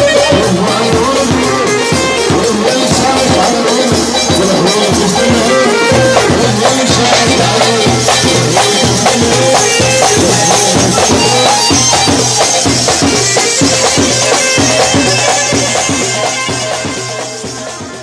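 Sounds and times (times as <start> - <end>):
reedy melody: 0.0 - 18.0
steady percussion beat: 0.0 - 18.0.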